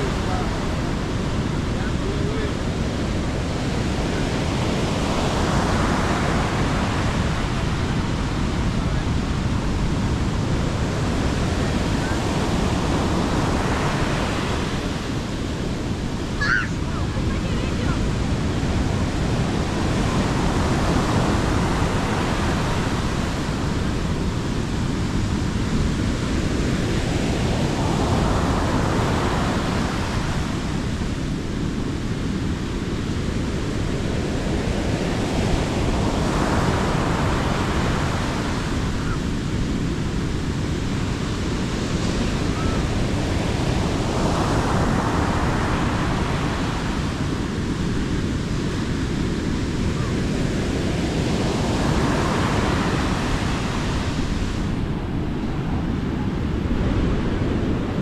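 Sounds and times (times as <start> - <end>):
low rumble of surf: 0.0 - 58.0
waves breaking on beach: 0.0 - 58.0.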